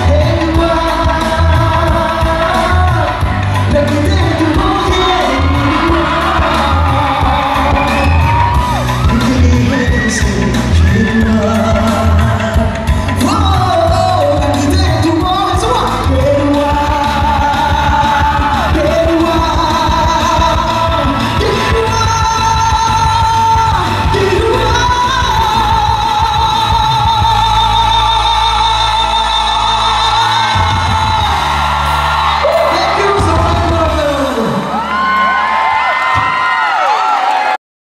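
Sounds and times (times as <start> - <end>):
man singing with vibrato: 0.0 - 34.8
live band playing: 0.0 - 37.5.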